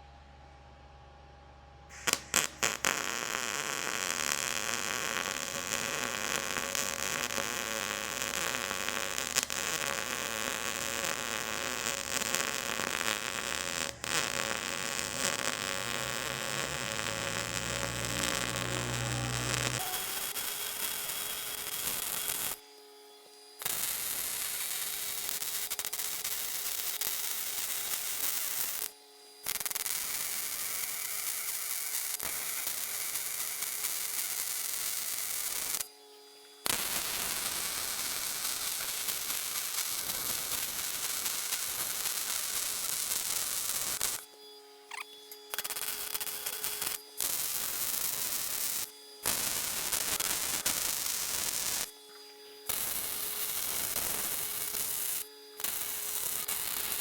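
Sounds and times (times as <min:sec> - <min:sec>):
arc welding crackle: 0:01.9 - 0:57.0.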